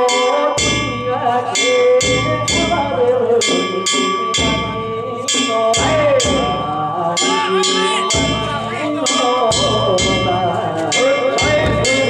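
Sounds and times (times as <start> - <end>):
voices calling: 0.0 - 12.0
taiko drum beating: 0.6 - 12.0.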